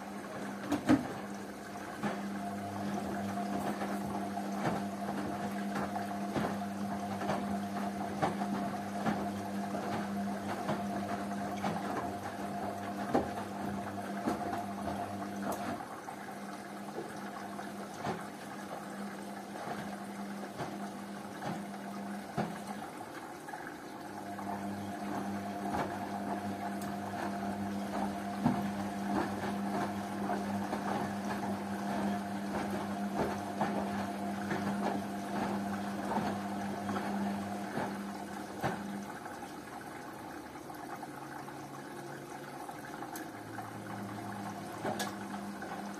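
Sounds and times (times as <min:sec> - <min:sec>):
washing machine motor hum: 0:00.0 - 0:45.9
water sloshing: 0:00.0 - 0:45.9.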